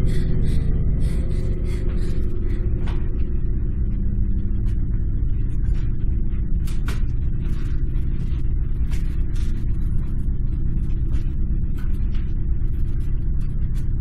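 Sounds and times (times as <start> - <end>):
low rumbling drone: 0.0 - 14.0.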